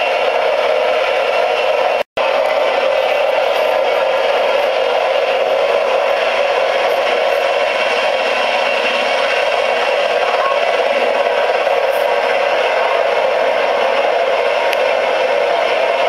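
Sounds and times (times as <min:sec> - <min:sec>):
aircraft rotors rushing: 0:00.0 - 0:16.0.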